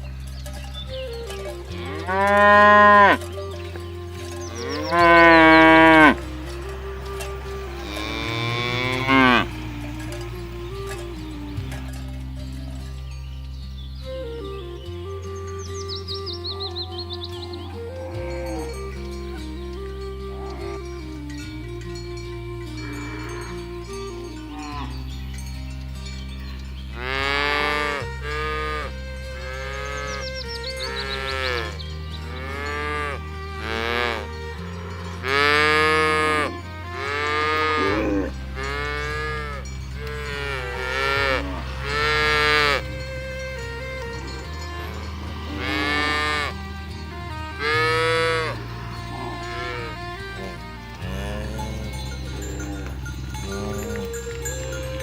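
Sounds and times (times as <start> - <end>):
soft background music: 0.0 - 55.0
cows mooing: 0.7 - 12.9, 14.4 - 25.4, 26.0 - 55.0.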